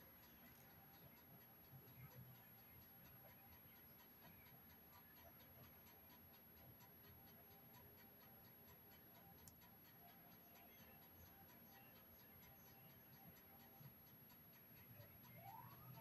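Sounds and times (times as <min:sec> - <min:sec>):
faint even ticking: 0:00.0 - 0:16.0.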